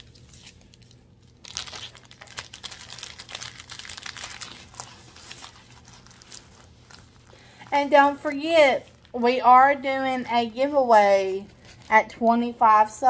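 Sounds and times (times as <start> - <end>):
canvas and plastic film crinkling: 0.0 - 12.2.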